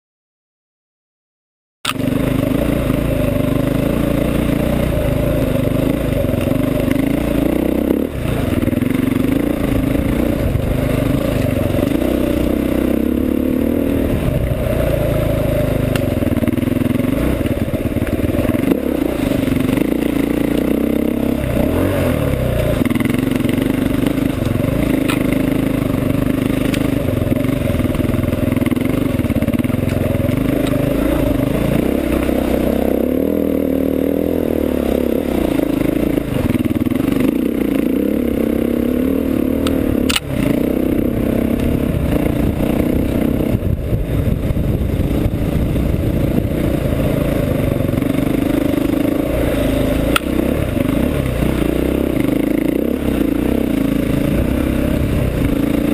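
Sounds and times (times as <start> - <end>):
motorcycle engine revving: 1.8 - 55.9.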